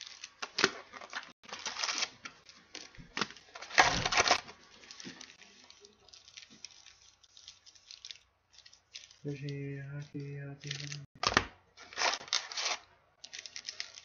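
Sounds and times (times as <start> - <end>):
card packs crinkling and rustling: 0.0 - 14.0.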